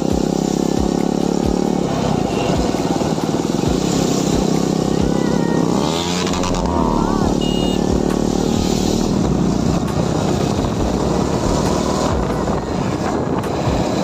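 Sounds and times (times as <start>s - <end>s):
motorcycle engine running: 0.0s - 14.0s
road noise: 0.0s - 14.0s
gliding tone: 1.6s - 13.2s.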